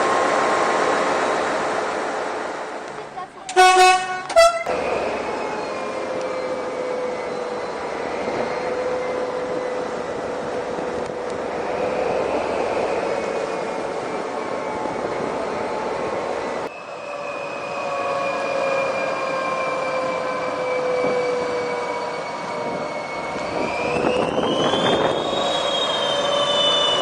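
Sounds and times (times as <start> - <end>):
diesel locomotive engine whining: 0.0 - 27.0.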